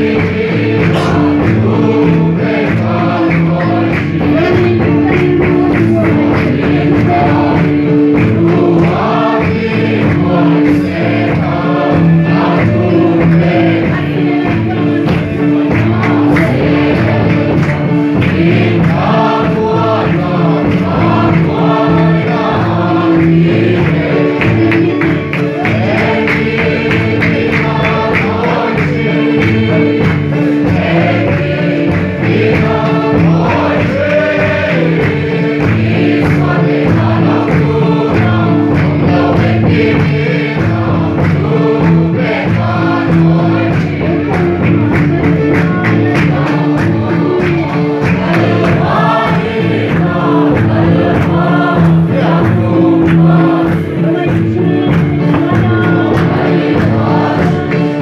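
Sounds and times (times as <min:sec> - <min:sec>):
congregation singing a hymn: 0:00.0 - 0:58.0
steady percussive beat: 0:00.0 - 0:58.0.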